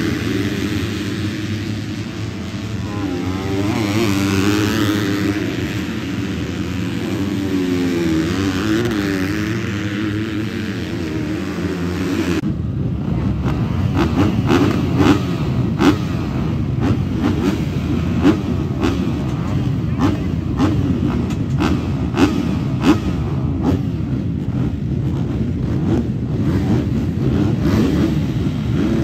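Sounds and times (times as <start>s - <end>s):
dirt bike engines rumbling: 0.0s - 29.0s
motocross bikes racing: 0.0s - 29.0s.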